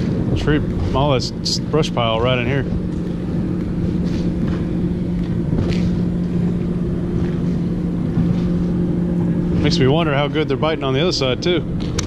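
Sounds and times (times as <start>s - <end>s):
boat motor humming: 0.0s - 12.0s
low rumble: 0.0s - 12.0s.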